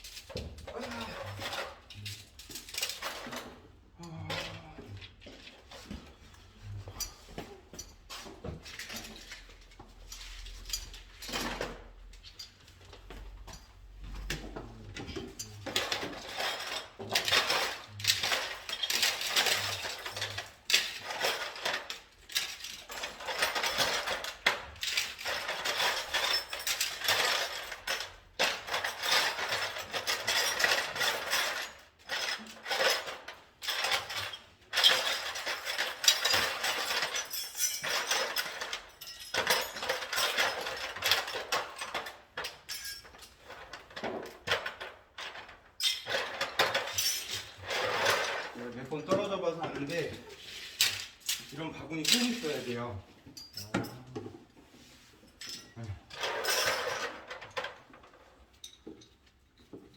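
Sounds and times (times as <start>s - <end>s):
metal tools clinking and rattling: 0.0s - 59.9s.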